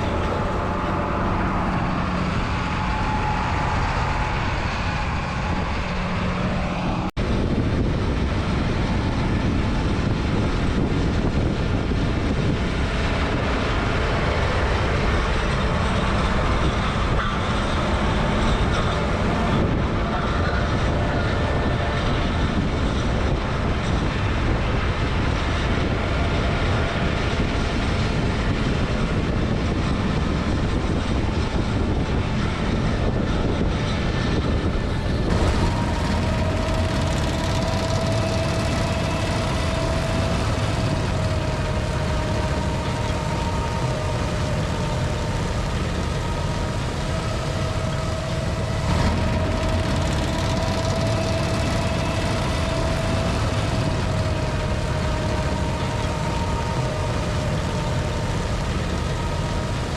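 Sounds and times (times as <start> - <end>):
harvester working: 0.0 - 59.9
tractor engine: 0.0 - 59.9.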